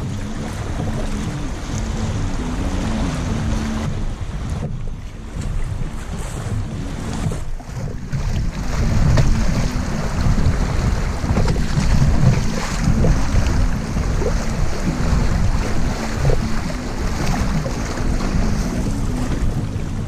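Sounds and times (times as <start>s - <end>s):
river water rushing and splashing: 0.0s - 20.0s
wind buffeting on microphone: 0.0s - 20.0s.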